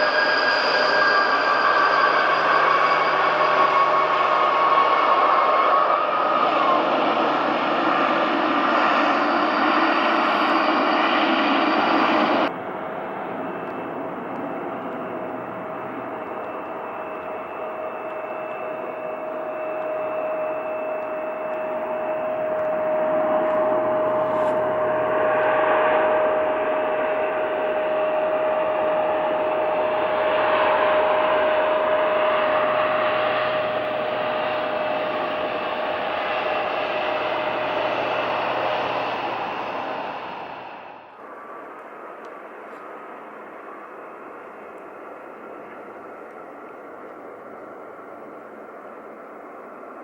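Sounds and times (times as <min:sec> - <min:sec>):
airliner engines whining: 0:00.0 - 0:50.0.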